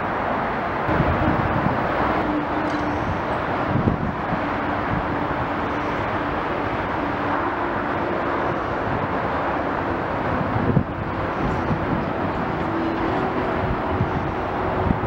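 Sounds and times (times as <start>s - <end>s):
distant engine noise: 0.0s - 15.0s.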